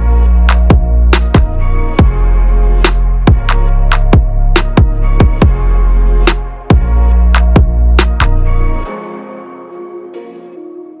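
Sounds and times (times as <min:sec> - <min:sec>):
held synth chords: 0:00.0 - 0:11.0.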